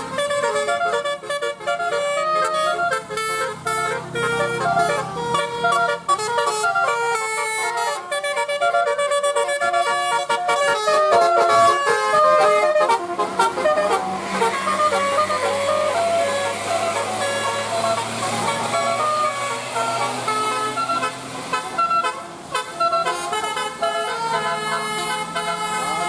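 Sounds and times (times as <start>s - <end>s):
musical air horn melody: 0.0s - 26.0s.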